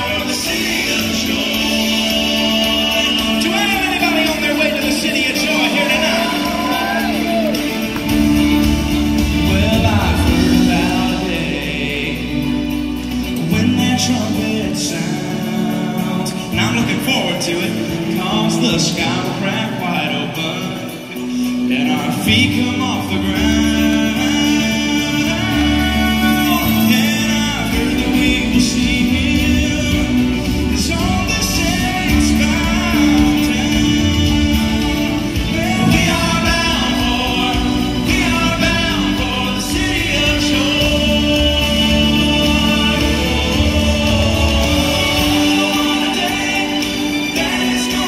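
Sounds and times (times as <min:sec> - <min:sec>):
acoustic guitar: 0:00.0 - 0:48.0
vocal group singing gospel: 0:00.0 - 0:48.0.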